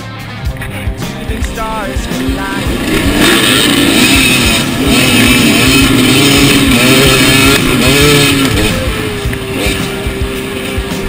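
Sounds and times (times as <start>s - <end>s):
motorcycles revving and accelerating: 0.6s - 11.0s.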